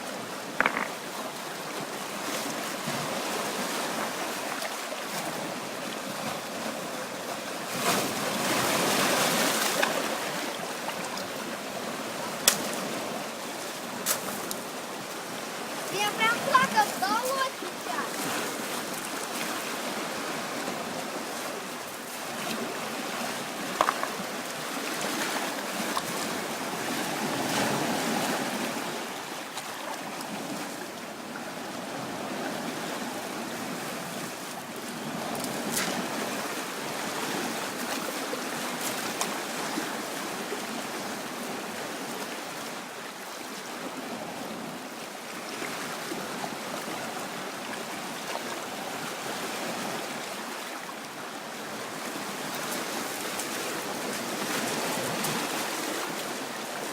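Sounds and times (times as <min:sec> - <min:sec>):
sea waves washing onto shore: 0:00.0 - 0:56.9.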